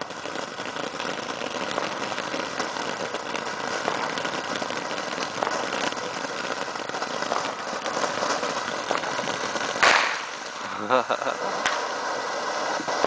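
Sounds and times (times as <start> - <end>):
firework crackles and pops: 0.0 - 13.0
firework fountain hissing: 0.0 - 13.0.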